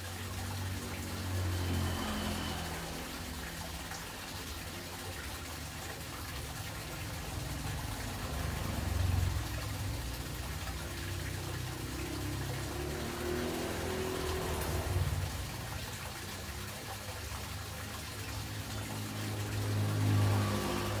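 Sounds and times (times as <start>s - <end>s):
aquarium water running: 0.0s - 21.0s.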